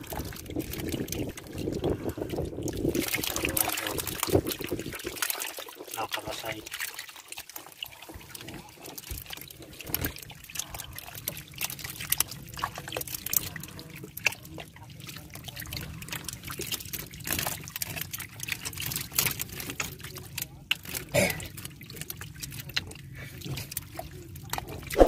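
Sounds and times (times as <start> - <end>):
fish squirming and slapping wetly: 0.0 - 25.0.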